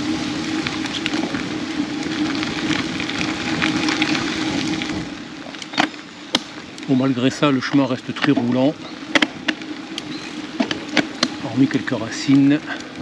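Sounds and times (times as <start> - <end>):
bicycle tyres on gravel: 0.0 - 13.0.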